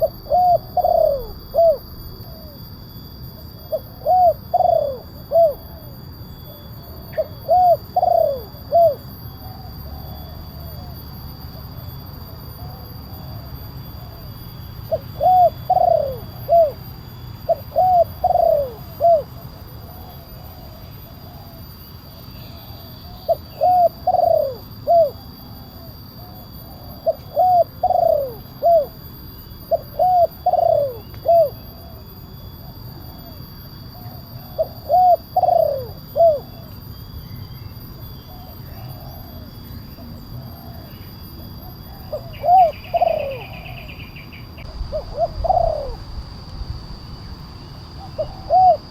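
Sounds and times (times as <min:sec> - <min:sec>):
dove cooing: 0:00.0 - 0:02.6, 0:03.6 - 0:11.0, 0:12.5 - 0:46.6, 0:47.8 - 0:48.9.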